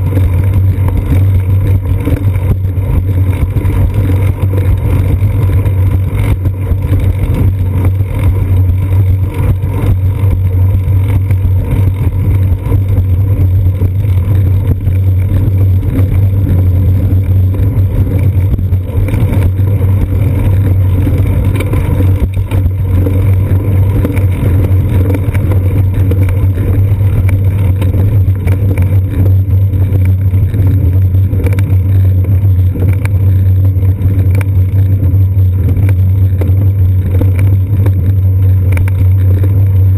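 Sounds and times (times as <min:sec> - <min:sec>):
low hum and rumble: 0:00.0 - 0:39.9.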